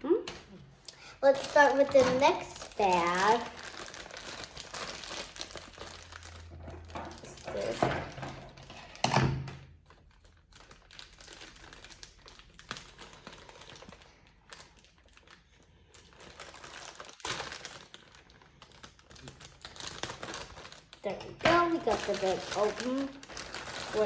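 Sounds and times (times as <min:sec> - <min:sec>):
plastic bag crinkling: 0:01.0 - 0:09.0, 0:09.7 - 0:24.0.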